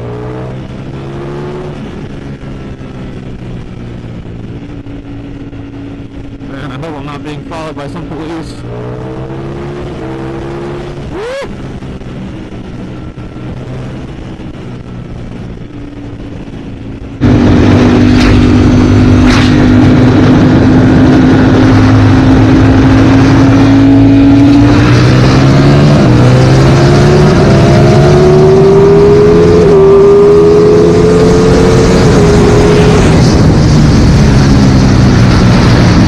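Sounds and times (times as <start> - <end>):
motorcycle engine accelerating: 0.0 - 36.0
wind rush: 0.0 - 36.0.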